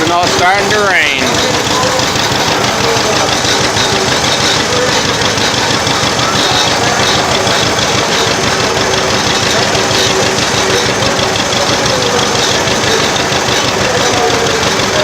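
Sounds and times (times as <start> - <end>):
old tractor engine running: 0.0 - 15.0.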